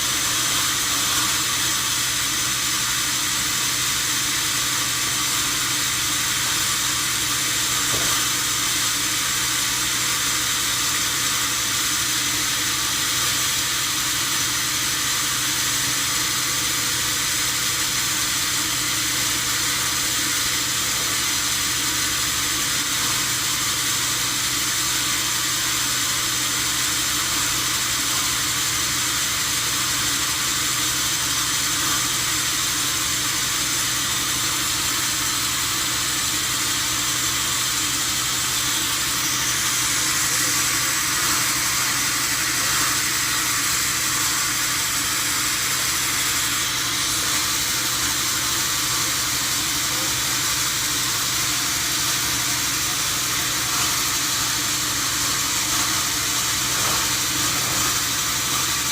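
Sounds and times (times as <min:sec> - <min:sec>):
sawmill machinery hissing: 0:00.0 - 0:58.9.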